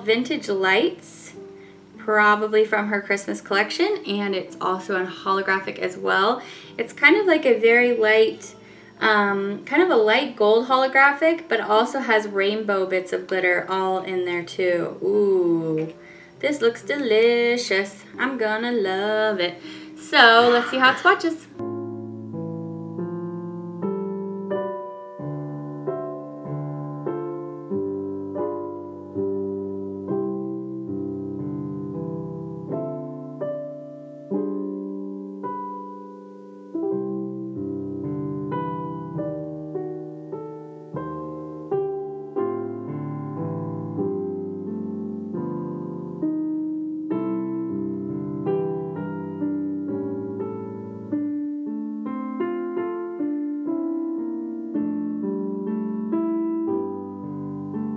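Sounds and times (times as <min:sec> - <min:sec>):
slow solo piano song: 0:00.0 - 0:57.9.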